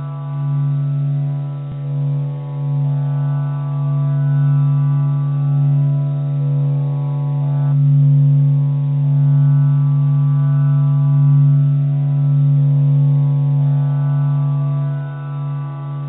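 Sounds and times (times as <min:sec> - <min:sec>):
low droning tone: 0:00.0 - 0:16.0.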